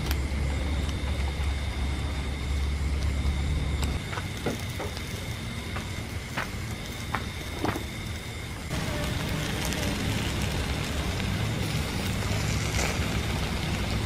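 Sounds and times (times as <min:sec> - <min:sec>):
faint high steady whine: 0:00.0 - 0:14.0
low steady rumble: 0:00.0 - 0:14.0
prawns crackling on charcoal grill: 0:00.0 - 0:14.0.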